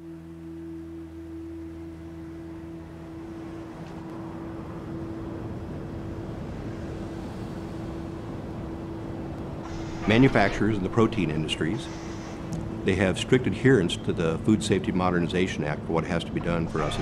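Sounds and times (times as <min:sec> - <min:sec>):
steady hum with held tone: 0:00.0 - 0:17.0
wash of noise: 0:02.8 - 0:17.0.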